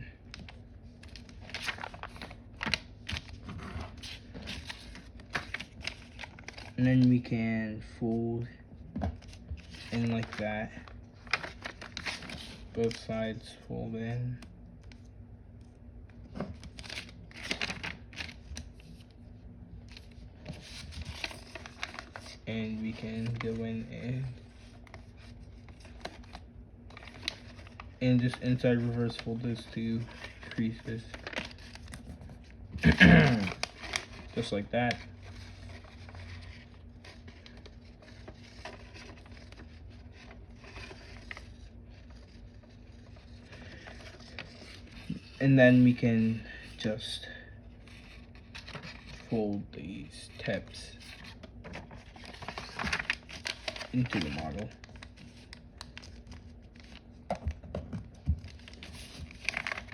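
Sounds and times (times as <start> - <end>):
low steady hum: 0.0 - 59.9
paper rustling and crinkling: 0.3 - 7.4, 9.1 - 13.2, 16.2 - 19.2, 19.9 - 46.1, 47.8 - 49.4, 50.2 - 59.9.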